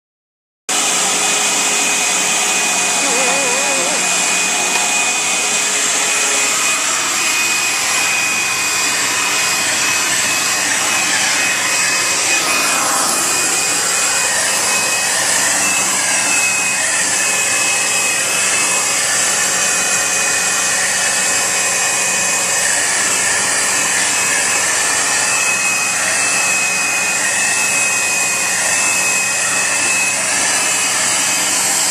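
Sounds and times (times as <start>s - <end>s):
vacuum cleaner whining: 0.7s - 31.9s.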